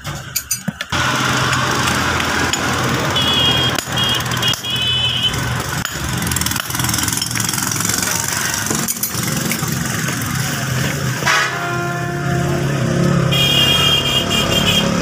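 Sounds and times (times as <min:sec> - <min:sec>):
workshop machine humming: 0:00.6 - 0:14.6.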